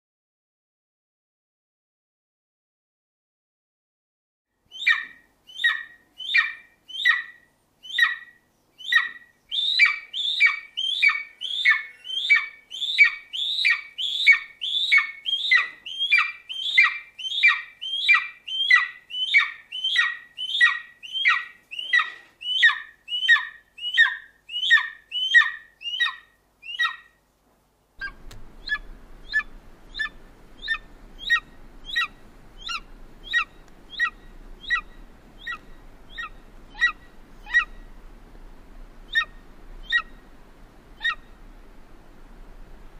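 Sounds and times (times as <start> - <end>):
low background hiss and hum: 4.6 - 42.9
eagle calling: 4.7 - 27.2, 28.0 - 38.2, 39.0 - 41.4.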